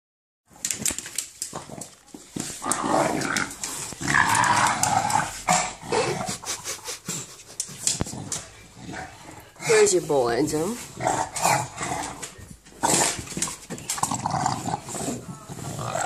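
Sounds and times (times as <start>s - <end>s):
dog growling: 1.5s - 9.9s, 10.8s - 16.0s.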